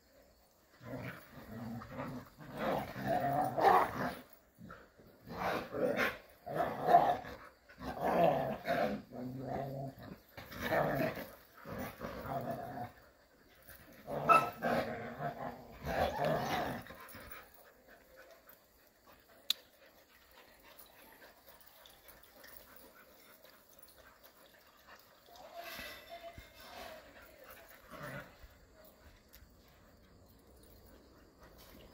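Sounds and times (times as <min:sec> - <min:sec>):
dogs growling: 0:00.7 - 0:26.0, 0:27.0 - 0:31.9.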